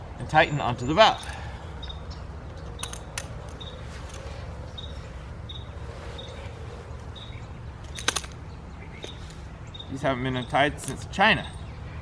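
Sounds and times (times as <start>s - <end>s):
steady low rumble: 0.0s - 10.8s
bird chirping: 0.1s - 12.0s.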